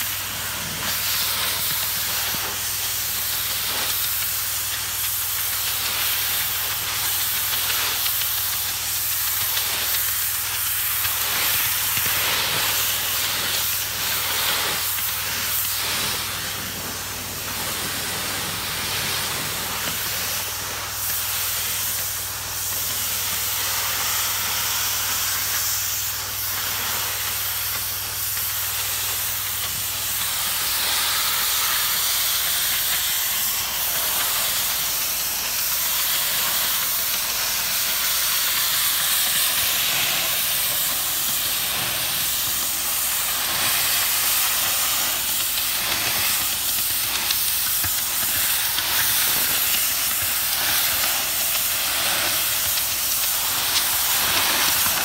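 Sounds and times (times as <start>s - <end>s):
pressure washer jet hissing on tiles: 0.0s - 55.0s.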